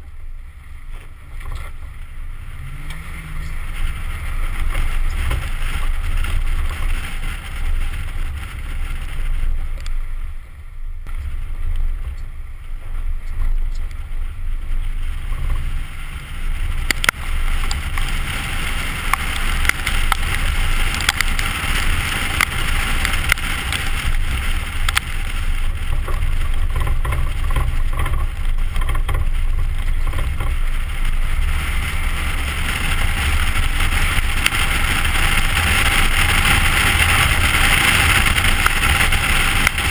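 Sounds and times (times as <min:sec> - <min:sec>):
rushing noise: 0:00.0 - 0:39.9
truck engine rumbling: 0:00.0 - 0:39.9.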